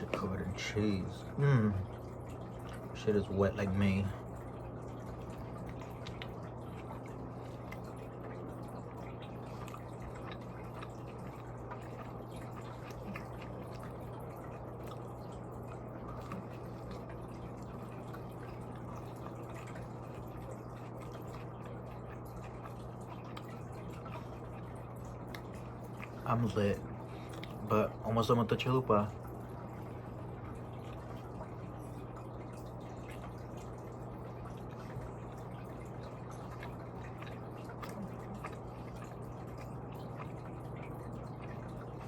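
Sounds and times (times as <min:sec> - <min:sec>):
low electrical hum: 0:00.0 - 0:42.0
person chewing food: 0:01.6 - 0:02.9, 0:04.2 - 0:27.7, 0:29.4 - 0:42.0.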